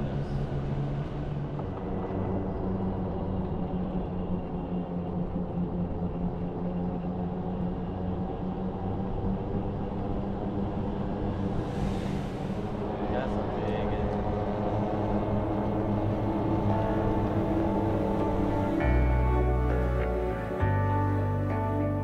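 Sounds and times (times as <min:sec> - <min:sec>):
road rumble: 0:00.0 - 0:22.0
vehicle engine droning: 0:00.0 - 0:22.0.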